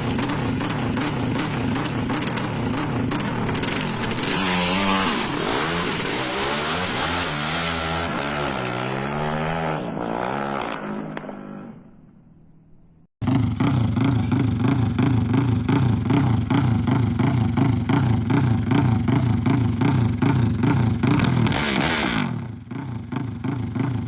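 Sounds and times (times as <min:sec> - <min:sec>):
motorcycle engine revving: 0:00.0 - 0:11.9, 0:13.2 - 0:24.0.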